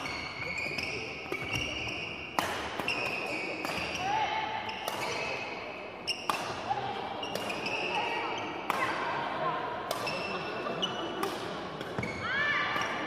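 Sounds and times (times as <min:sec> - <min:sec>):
rackets hitting shuttlecock: 0:00.0 - 0:04.1, 0:04.7 - 0:07.9, 0:08.5 - 0:09.2, 0:09.8 - 0:13.0.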